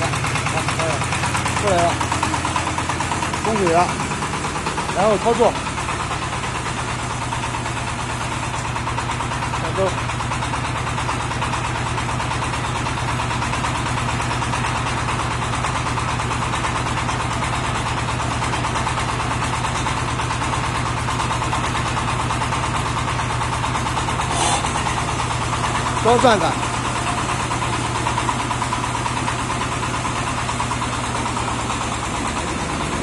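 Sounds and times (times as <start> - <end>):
drilling rig engine running: 0.0 - 33.0
hydraulic valves pulsing: 0.0 - 33.0.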